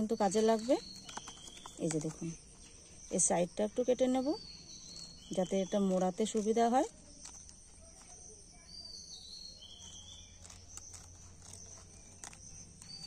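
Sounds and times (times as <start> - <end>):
insects chirping: 0.0 - 13.0
scissors snipping dried leaves: 0.0 - 13.0.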